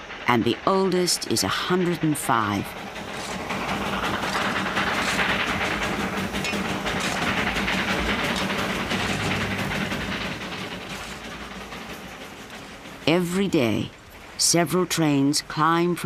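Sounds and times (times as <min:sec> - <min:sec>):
low hum: 0:00.0 - 0:14.4
steam train clattering: 0:00.0 - 0:16.0.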